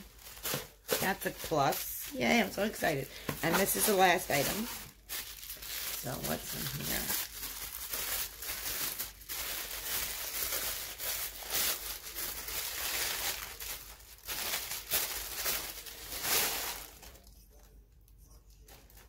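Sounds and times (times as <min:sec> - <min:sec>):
tissue paper crinkling: 0:00.0 - 0:17.7, 0:18.6 - 0:19.0.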